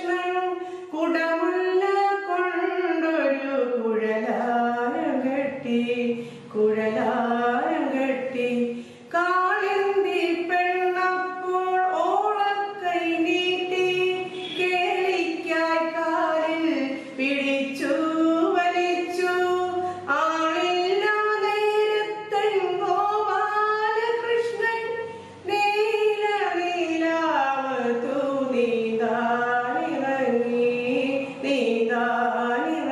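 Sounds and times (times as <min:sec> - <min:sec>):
woman singing unaccompanied: 0:00.0 - 0:32.9.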